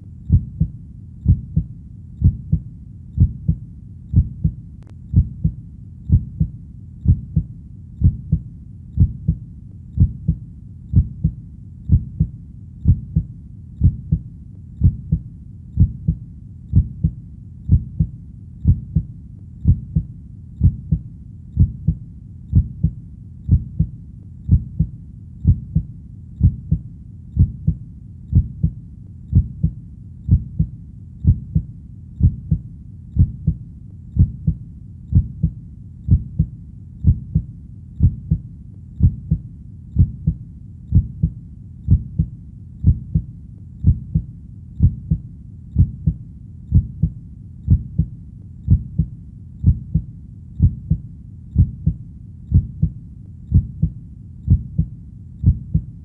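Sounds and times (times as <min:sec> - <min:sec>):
heartbeat: 0:00.0 - 0:56.0.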